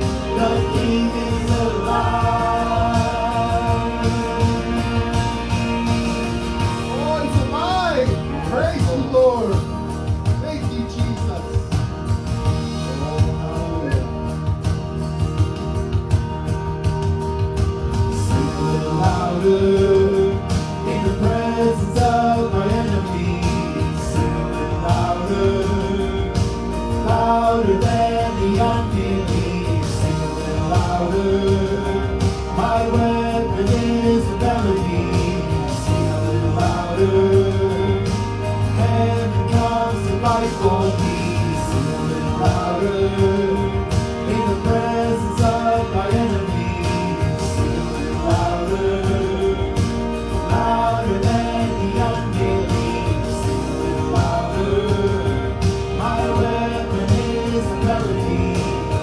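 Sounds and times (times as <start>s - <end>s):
voices singing: 0.0s - 59.0s
worship band playing: 0.0s - 59.0s.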